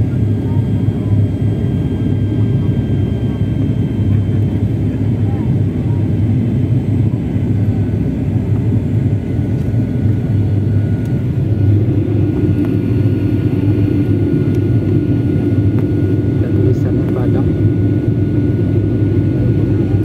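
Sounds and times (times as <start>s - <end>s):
engine and airflow rumble: 0.0s - 20.0s.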